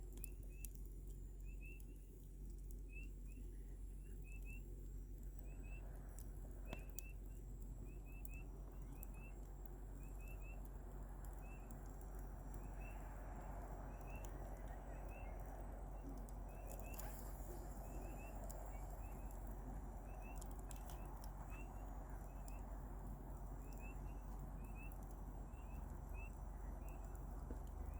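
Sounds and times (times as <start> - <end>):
campfire hissing: 0.0 - 27.9
fire crackles and pops: 0.0 - 27.9.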